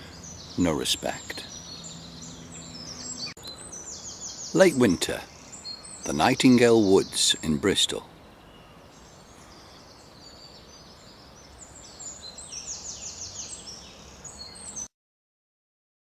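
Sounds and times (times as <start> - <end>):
faint outdoor hush: 0.0 - 14.7
songbird singing: 0.0 - 14.9.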